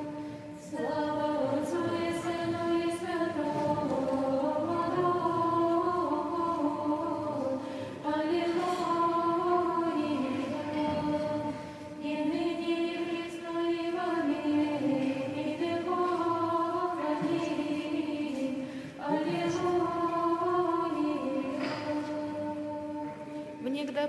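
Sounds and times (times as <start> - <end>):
women's choir chanting unaccompanied: 0.0 - 23.6.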